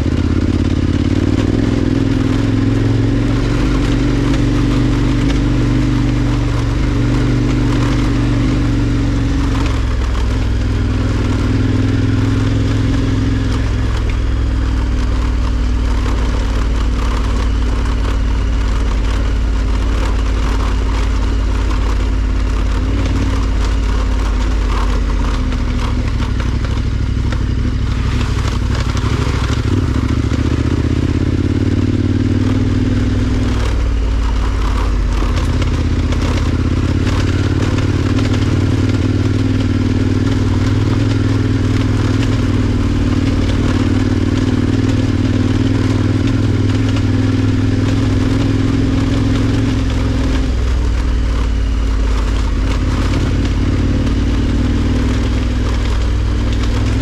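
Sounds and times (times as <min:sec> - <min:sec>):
motorcycle engine revving: 0:00.0 - 0:57.0
tyres crackling on loose dirt: 0:00.1 - 0:57.0.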